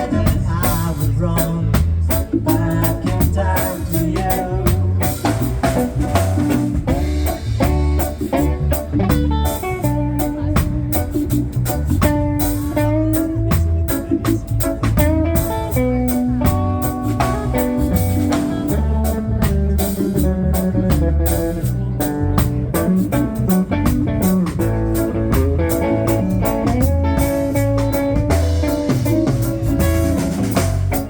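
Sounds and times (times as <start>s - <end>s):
bass guitar line: 0.0s - 31.0s
drum kit beat: 0.0s - 31.0s
lead guitar melody: 0.0s - 31.0s.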